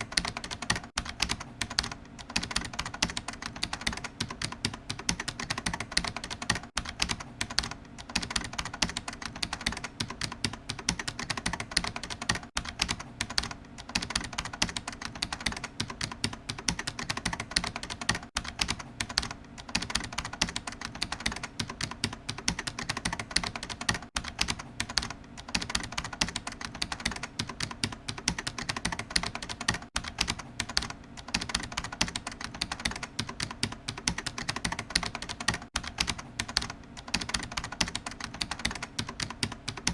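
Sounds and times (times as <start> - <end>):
rapid typing on keyboard: 0.0 - 39.9.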